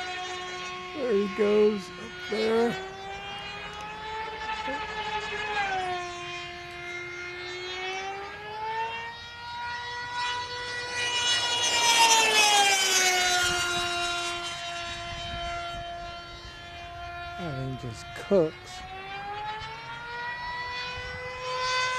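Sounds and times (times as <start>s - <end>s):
model aircraft engine high whine: 0.0s - 21.9s.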